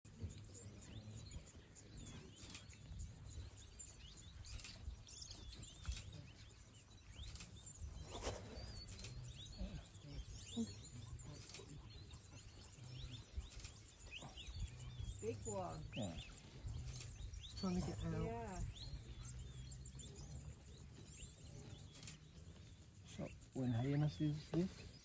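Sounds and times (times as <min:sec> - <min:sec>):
faint low rumble: 0:00.1 - 0:24.8
small birds chirping: 0:00.1 - 0:25.0.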